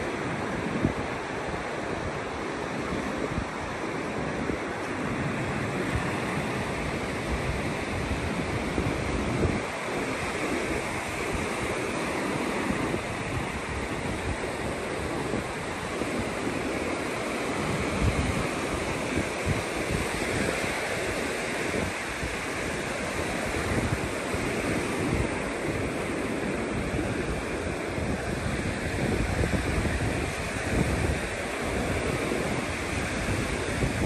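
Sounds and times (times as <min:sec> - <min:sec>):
ocean surf washing onto beach: 0:00.0 - 0:34.0.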